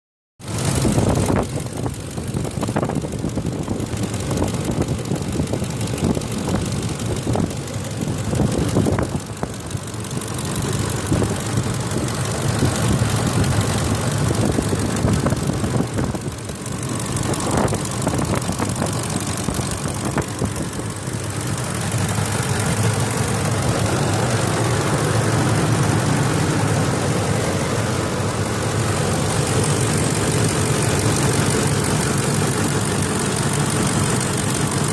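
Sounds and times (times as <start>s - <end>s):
truck engine running with ticking: 0.4s - 34.9s.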